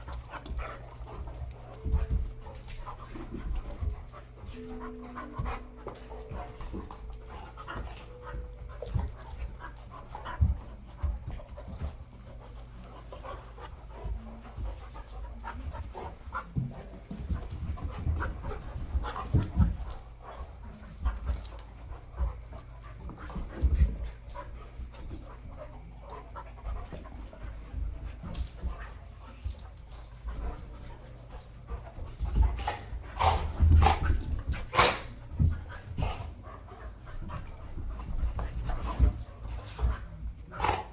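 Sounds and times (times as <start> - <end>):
dogs panting: 0.0 - 40.9
dogs scuffling thumps: 0.0 - 40.9.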